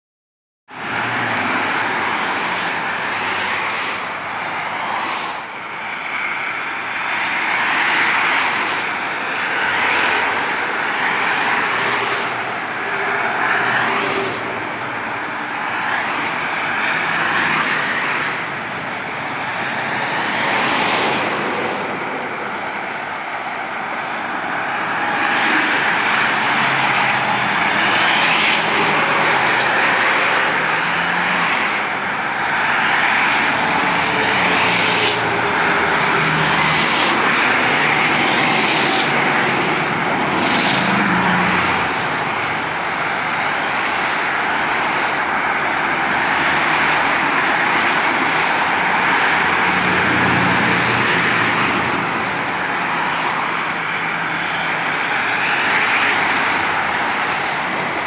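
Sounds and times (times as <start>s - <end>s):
highway traffic rushing: 0.7s - 58.0s.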